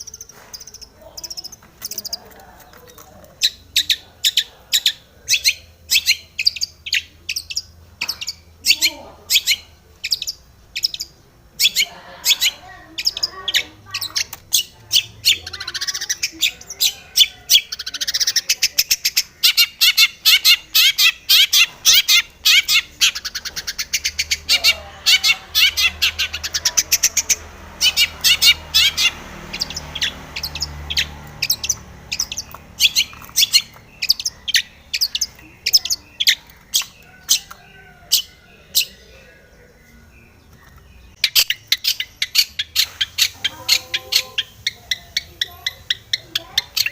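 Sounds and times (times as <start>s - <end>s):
bird singing sharp chattering notes: 0.0s - 46.9s.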